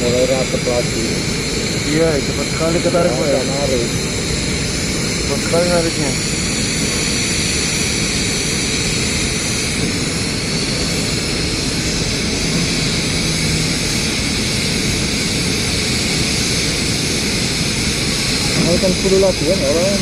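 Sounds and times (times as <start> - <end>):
loud machine drone with hiss: 0.0 - 20.0.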